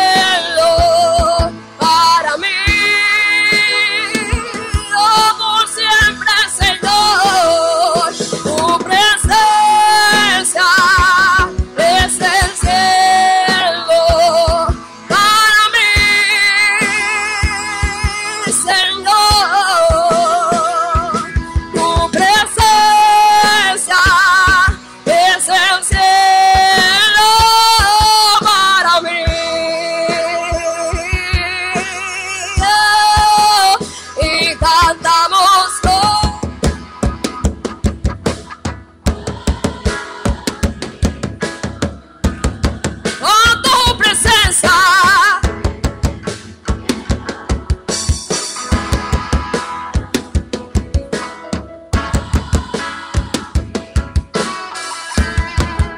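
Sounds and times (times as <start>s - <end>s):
steady drum beat: 0.0s - 55.9s
worship band playing: 0.0s - 55.9s.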